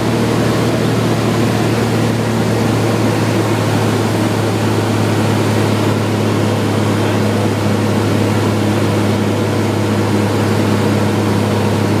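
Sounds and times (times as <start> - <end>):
airplane engine droning in cabin: 0.0 - 12.0.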